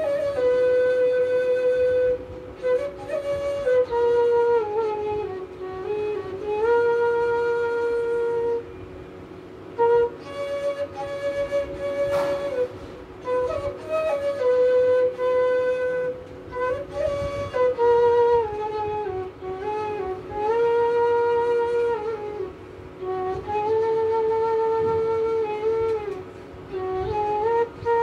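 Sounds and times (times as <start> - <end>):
bamboo flute melody: 0.0 - 28.0.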